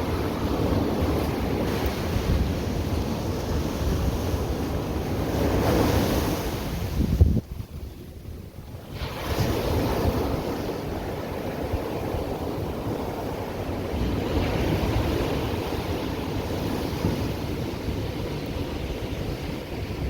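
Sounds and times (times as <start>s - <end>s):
ocean waves breaking: 0.0s - 7.0s, 8.7s - 20.0s
wind rumbling on microphone: 0.0s - 20.0s.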